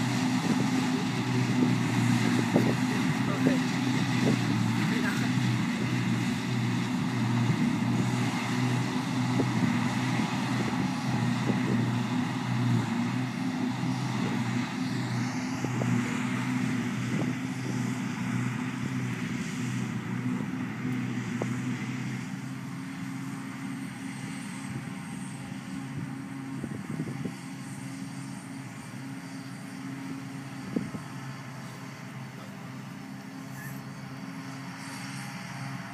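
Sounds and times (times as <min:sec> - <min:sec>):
diesel machinery droning: 0:00.0 - 0:35.9.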